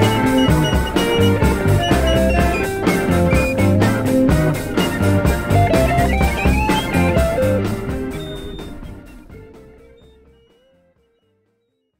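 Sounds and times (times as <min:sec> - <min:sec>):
rising guitar note: 0:00.0 - 0:10.8
rock music: 0:00.0 - 0:10.9.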